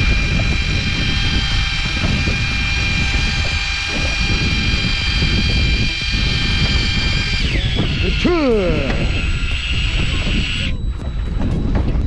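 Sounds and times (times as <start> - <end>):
boat engine drone with whine: 0.0 - 12.0
wind rumble on microphone: 0.0 - 12.0.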